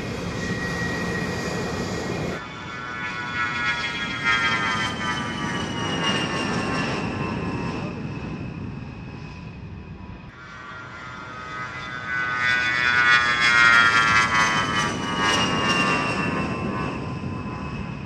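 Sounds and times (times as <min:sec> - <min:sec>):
jet engines whining and rumbling: 0:00.0 - 0:18.0.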